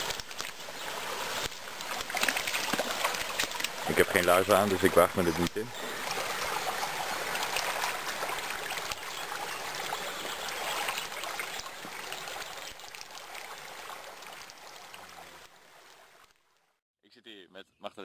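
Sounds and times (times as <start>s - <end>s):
stream splashing over stones: 0.0s - 16.4s.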